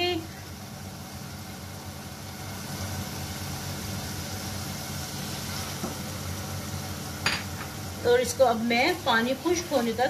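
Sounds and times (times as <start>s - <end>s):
low hum with hiss: 0.0s - 10.0s.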